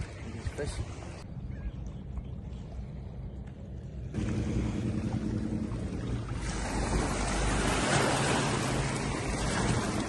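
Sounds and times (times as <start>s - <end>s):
water noise: 0.0s - 10.0s
wind: 0.0s - 10.0s
boat motor humming: 1.0s - 10.0s.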